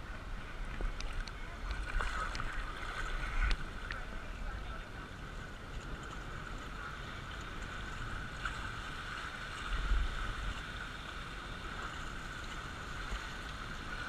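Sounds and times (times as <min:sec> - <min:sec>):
rush of running water: 0:00.0 - 0:14.0.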